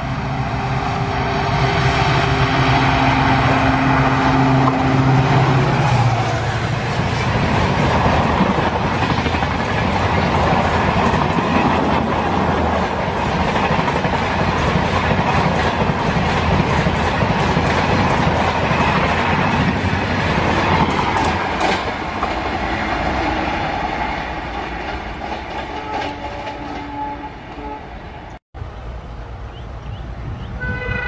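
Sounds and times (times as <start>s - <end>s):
train wheels on rail: 0.0s - 28.4s.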